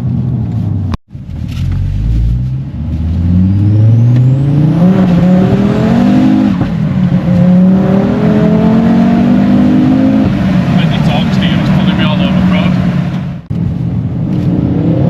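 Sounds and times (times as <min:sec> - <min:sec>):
car engine accelerating hard: 0:01.1 - 0:15.0.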